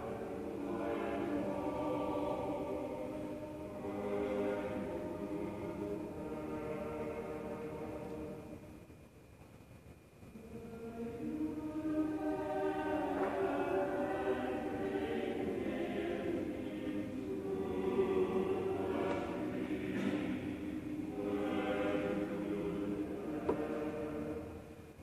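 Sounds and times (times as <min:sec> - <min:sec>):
church choir singing: 0:00.0 - 0:08.9, 0:10.3 - 0:25.0.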